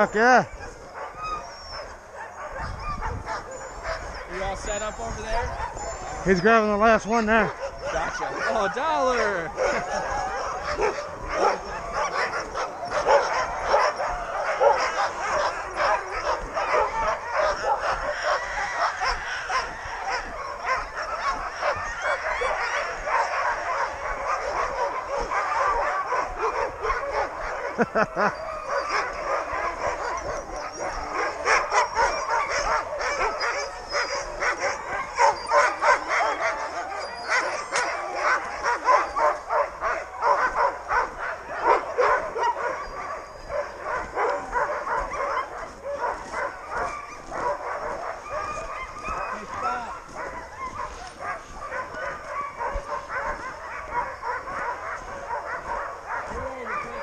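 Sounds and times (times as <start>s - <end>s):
dogs barking yipping and whining: 0.0s - 57.0s.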